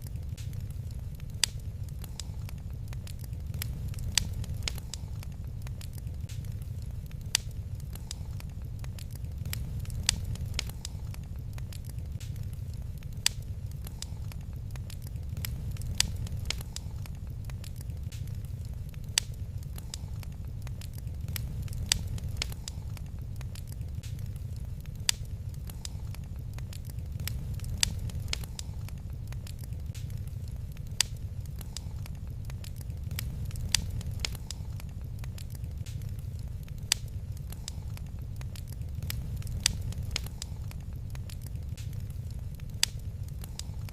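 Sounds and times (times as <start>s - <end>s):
low fire rumble: 0.0s - 43.9s
wood fire crackling: 0.0s - 43.9s.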